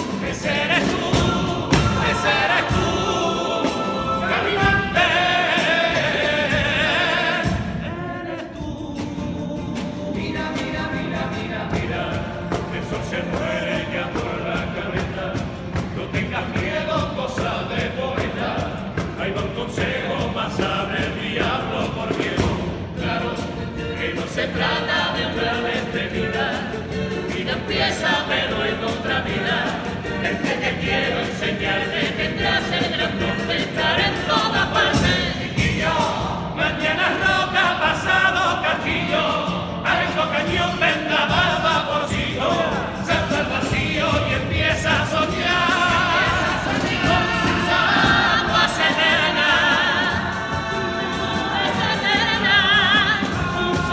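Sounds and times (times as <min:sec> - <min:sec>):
guitar accompaniment: 0:00.0 - 0:53.9
male chorus singing: 0:00.0 - 0:53.9.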